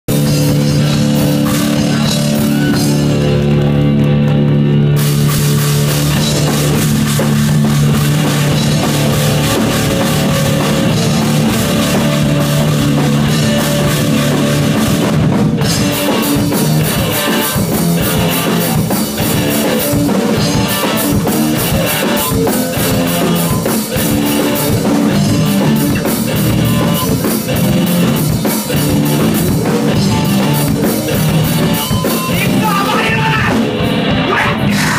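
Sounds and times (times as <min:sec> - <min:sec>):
electric bass: 0:00.0 - 0:34.9
drum kit and cymbals: 0:00.1 - 0:34.9
electric guitar: 0:00.1 - 0:34.9.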